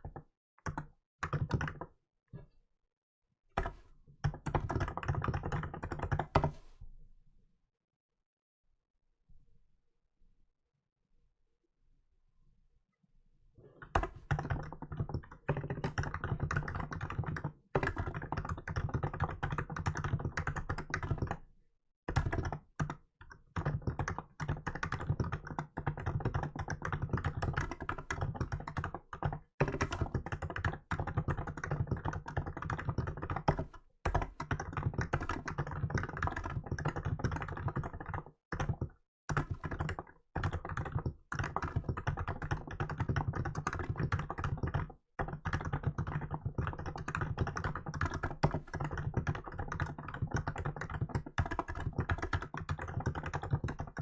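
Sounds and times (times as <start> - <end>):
keyboard typing: 0.0 - 1.9, 3.6 - 6.6, 13.8 - 21.4, 22.1 - 54.0.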